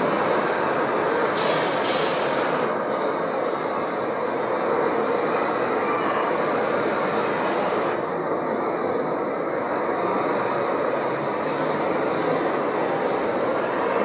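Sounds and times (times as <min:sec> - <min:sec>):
model train running: 0:00.0 - 0:14.0.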